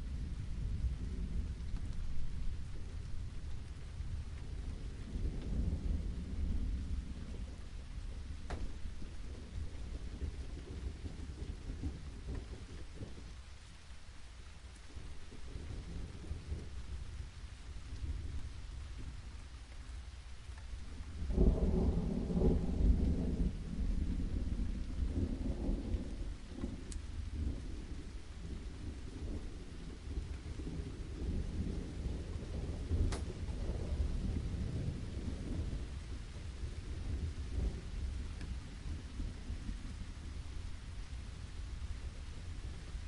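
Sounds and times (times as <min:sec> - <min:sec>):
steady rain: 0:00.0 - 0:43.0
thunder rumbling: 0:00.0 - 0:43.0.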